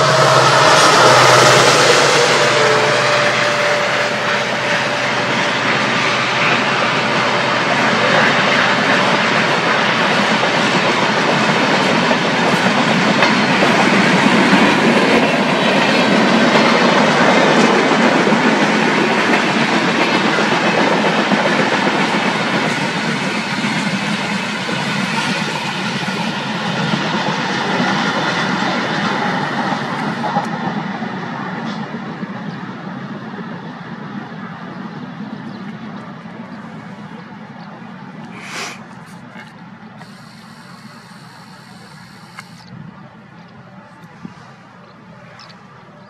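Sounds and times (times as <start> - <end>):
train wheels running on track: 0.0 - 46.0.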